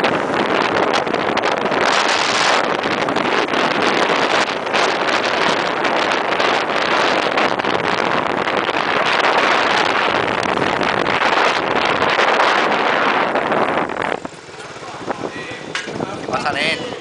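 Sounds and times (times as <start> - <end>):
scooter engine running: 0.0 - 17.0
wind rushing over microphone: 0.0 - 17.0.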